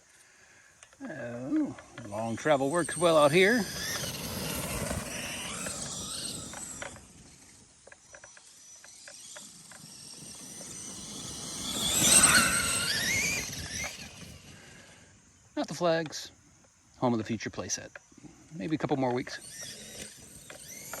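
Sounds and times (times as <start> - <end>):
electric motor whine: 0.8 - 15.5, 17.6 - 21.0
tyre and ground noise: 0.8 - 16.7, 17.8 - 21.0.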